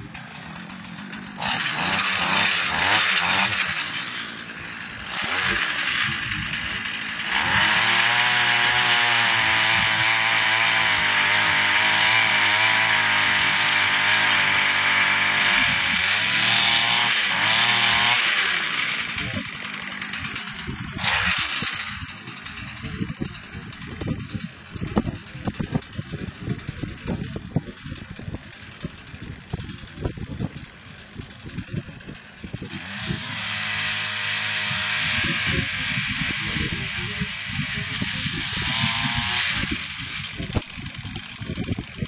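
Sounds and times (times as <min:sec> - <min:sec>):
ice auger engine revving: 0:00.0 - 0:42.0.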